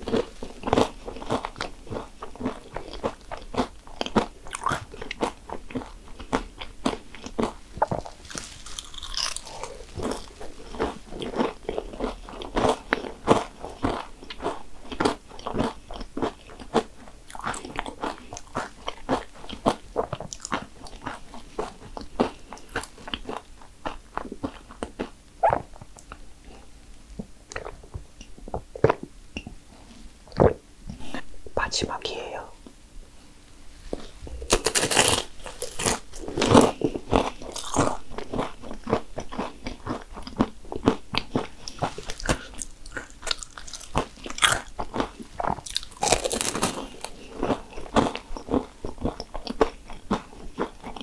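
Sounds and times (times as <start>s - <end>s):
crunchy chewing: 0.0s - 31.2s, 33.9s - 51.0s.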